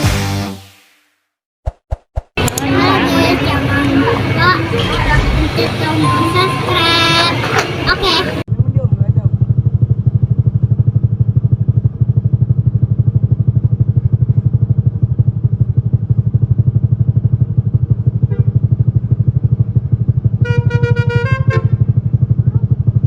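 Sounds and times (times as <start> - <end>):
vehicle engine running: 2.4 - 23.0.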